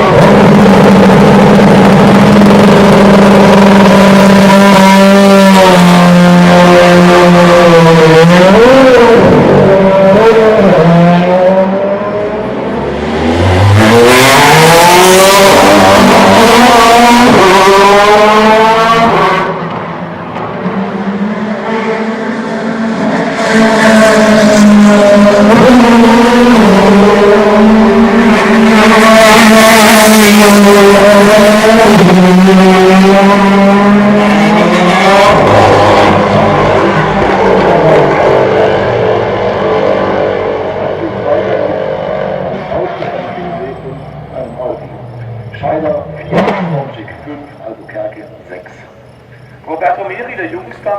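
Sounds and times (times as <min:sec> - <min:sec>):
race car engine at full throttle: 0:00.0 - 0:50.9.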